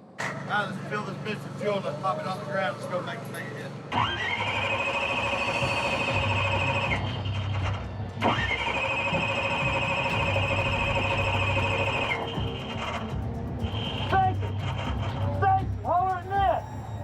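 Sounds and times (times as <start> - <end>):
starter motor cranking whine: 0.2 - 17.0.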